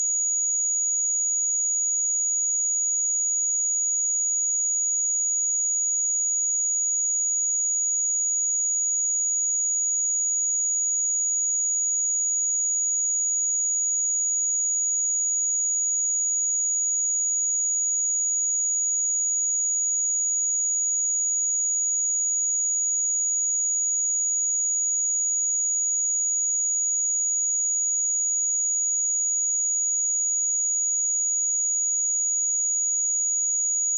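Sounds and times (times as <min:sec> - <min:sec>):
high-pitched sine-wave test tone: 0:00.0 - 0:33.9.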